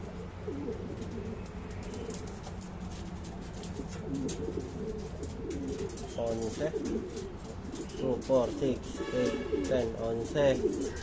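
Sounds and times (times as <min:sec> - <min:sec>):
pigeons cooing: 0:00.0 - 0:11.0
light clicks and rustles: 0:00.7 - 0:11.0.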